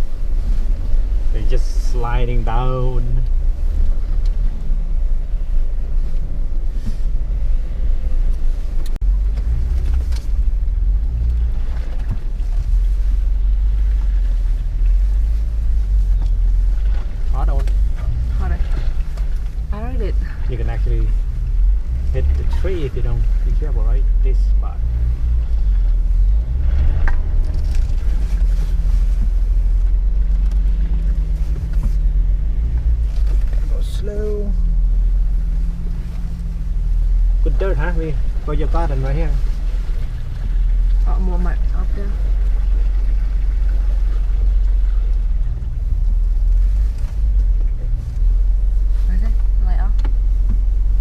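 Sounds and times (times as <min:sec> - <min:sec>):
engine rumble from inside vehicle: 0:00.0 - 0:51.0.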